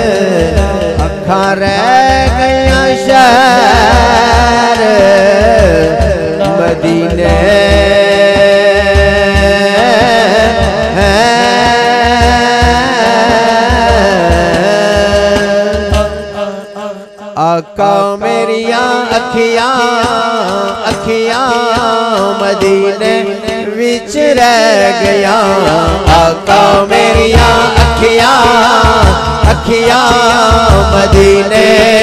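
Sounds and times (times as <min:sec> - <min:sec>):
low drum beat: 0:00.0 - 0:16.5, 0:19.2 - 0:32.0
man singing with vibrato: 0:00.0 - 0:32.0.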